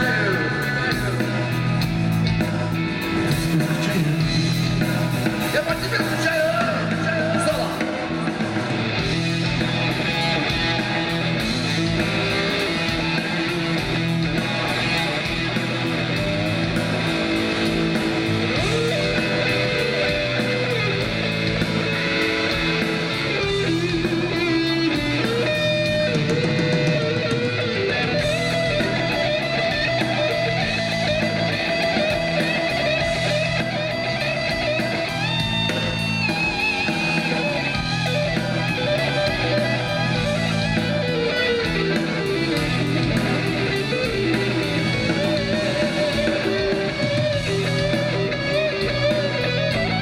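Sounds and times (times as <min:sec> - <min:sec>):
electric guitar bending melody: 0:00.0 - 0:50.0
rock band playing: 0:00.0 - 0:50.0.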